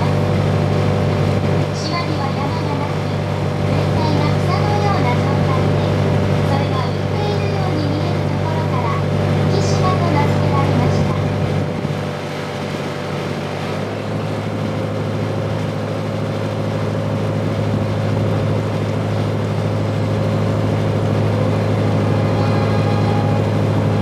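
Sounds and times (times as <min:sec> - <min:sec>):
boat engine low hum: 0:00.0 - 0:24.0.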